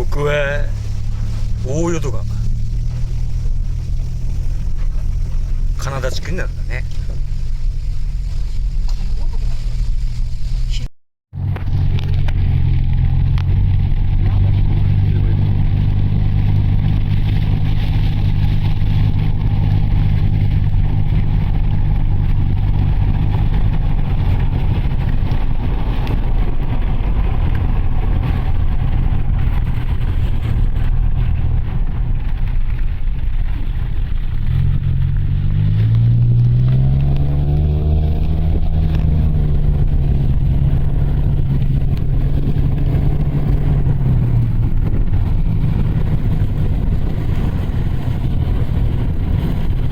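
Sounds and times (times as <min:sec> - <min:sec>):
road noise inside vehicle: 0:00.0 - 0:49.9
van engine: 0:00.0 - 0:49.9.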